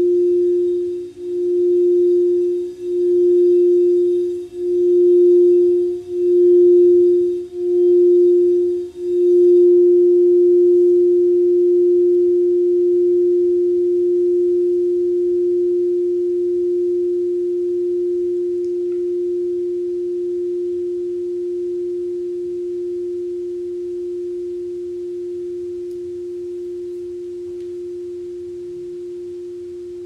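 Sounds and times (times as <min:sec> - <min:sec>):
crystal singing bowl ringing: 0:00.0 - 0:30.0.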